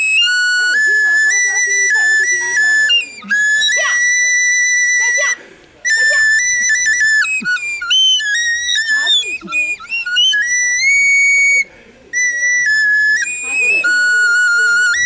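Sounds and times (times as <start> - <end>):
high-pitched flute melody: 0.0 - 15.0.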